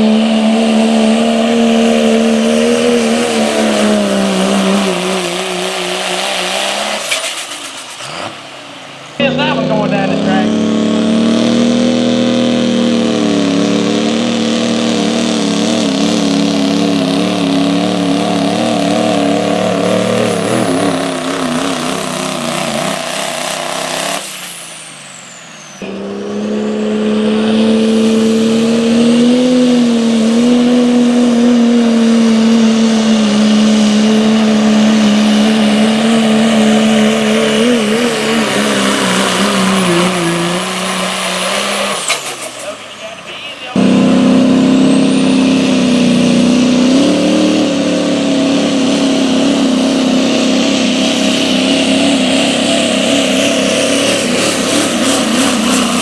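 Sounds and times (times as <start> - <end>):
diesel truck engine at full throttle: 0.0 - 56.0.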